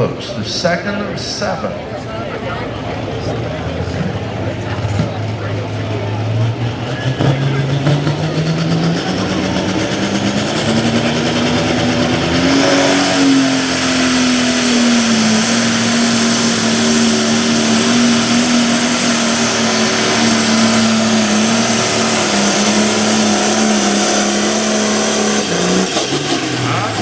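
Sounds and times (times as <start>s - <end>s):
tractor diesel engine at full power: 0.0s - 27.0s.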